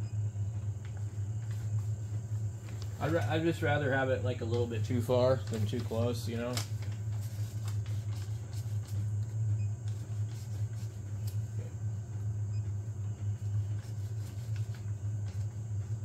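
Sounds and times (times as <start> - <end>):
printer fans humming: 0.0 - 16.0.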